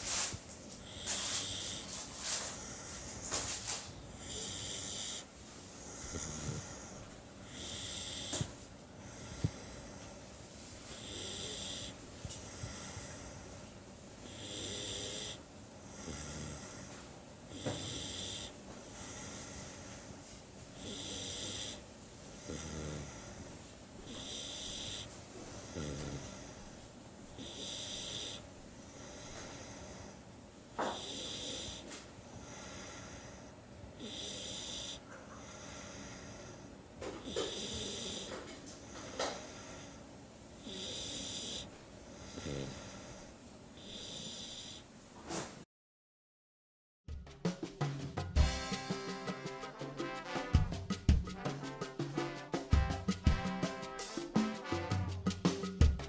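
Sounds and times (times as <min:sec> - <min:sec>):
puppy snoring: 0:00.0 - 0:40.0, 0:40.6 - 0:45.6.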